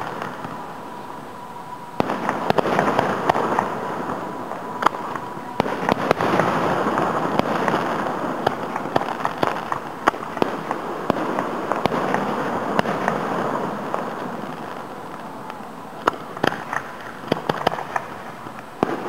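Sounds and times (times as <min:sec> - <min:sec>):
distant firework bangs: 0:00.0 - 0:19.0
steady background noise: 0:00.0 - 0:19.0.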